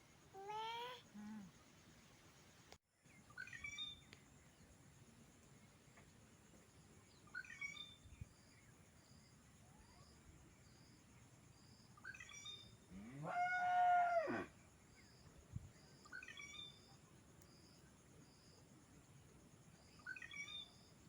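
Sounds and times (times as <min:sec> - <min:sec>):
faint insect pulsing: 0:00.0 - 0:21.0.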